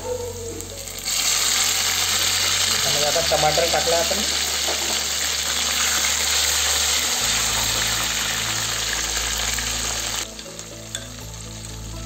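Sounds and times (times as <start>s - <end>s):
vegetables sizzling in oil: 0.3s - 12.0s.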